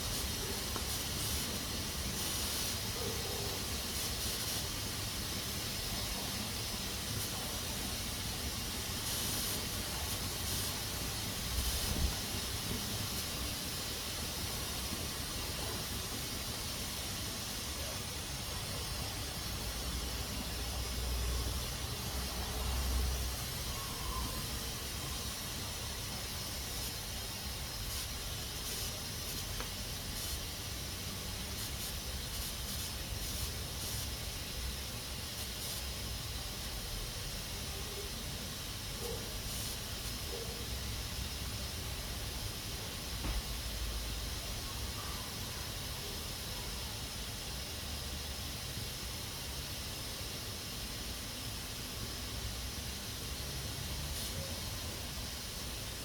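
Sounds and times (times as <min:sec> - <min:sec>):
pressure cooker hissing: 0:00.0 - 0:56.0.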